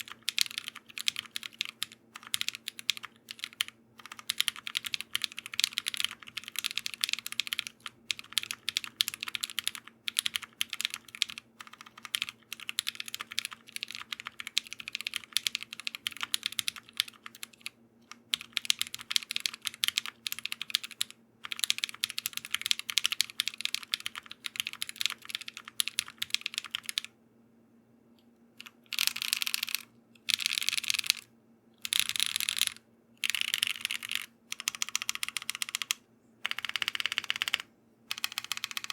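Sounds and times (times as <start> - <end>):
mechanical keyboard typing: 0.0 - 27.1, 28.6 - 38.9.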